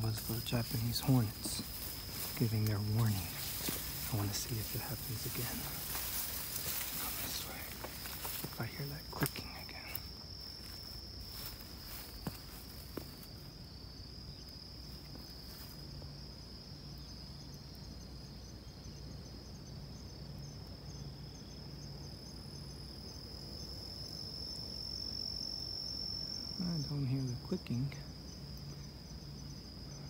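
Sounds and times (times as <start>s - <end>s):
insect chorus buzzing: 0.0s - 30.0s.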